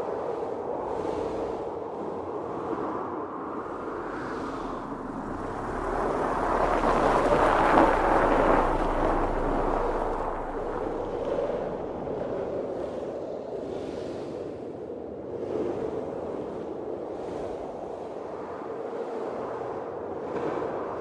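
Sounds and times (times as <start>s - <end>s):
blizzard wind gusting: 0.0s - 21.0s.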